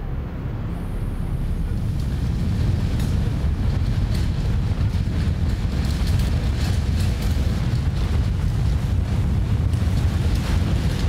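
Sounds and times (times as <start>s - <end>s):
deep earthquake rumble: 0.0s - 11.0s.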